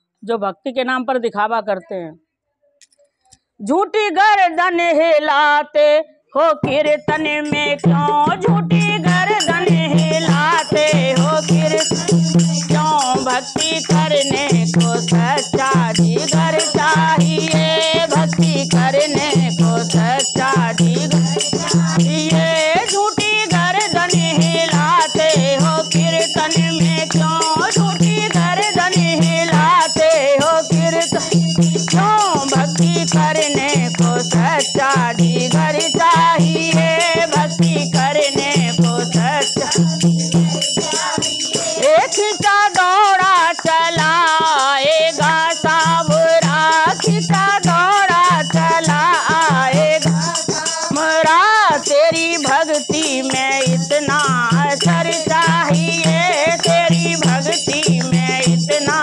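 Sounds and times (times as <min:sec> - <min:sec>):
women singing devotional song: 0:03.6 - 0:59.0
hand rattle shaking: 0:07.2 - 0:59.0.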